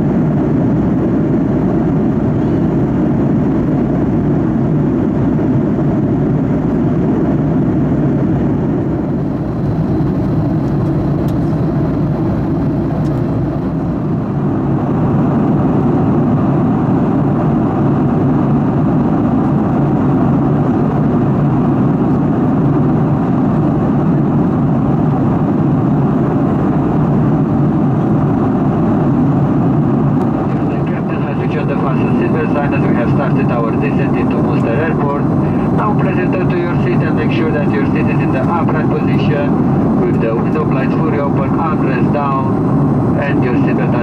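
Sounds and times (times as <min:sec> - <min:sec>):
airliner cabin air and engine noise: 0:00.0 - 0:44.0.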